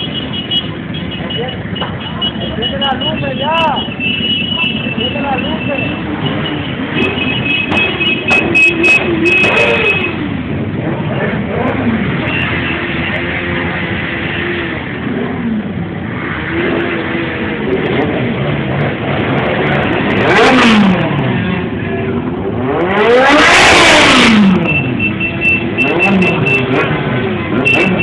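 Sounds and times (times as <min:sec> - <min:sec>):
motorcycles revving and passing: 0:00.0 - 0:28.0.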